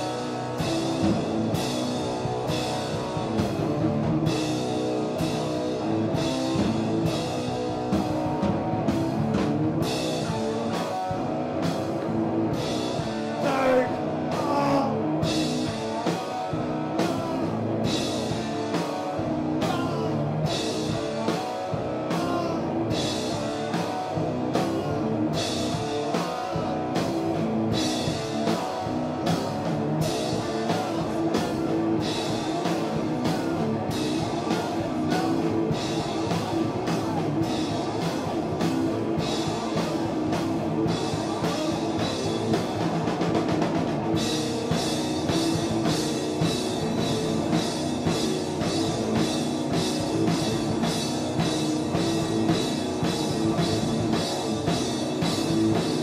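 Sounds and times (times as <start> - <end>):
distorted electric guitar: 0.0 - 56.0
drum kit: 0.0 - 56.0.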